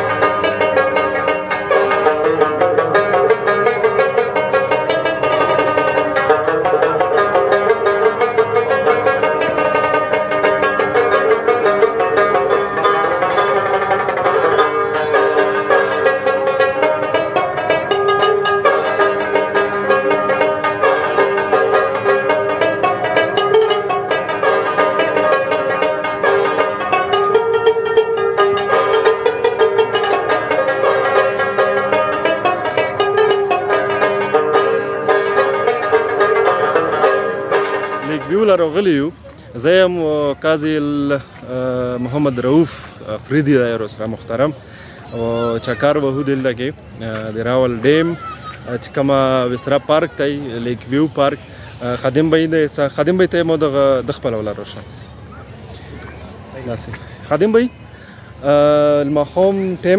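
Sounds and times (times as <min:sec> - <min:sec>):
plucked lute playing: 0:00.0 - 0:59.9.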